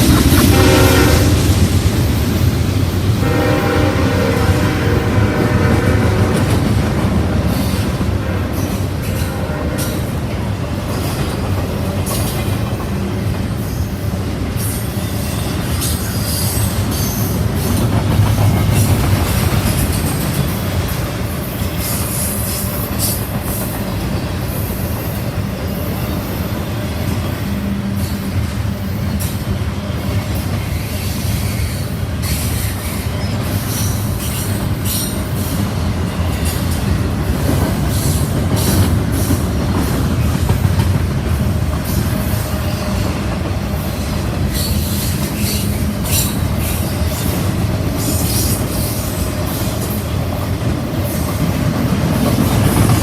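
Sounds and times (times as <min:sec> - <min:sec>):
train cars rumbling past: 0:00.0 - 0:53.0
wheels squealing on rails: 0:00.0 - 0:53.0.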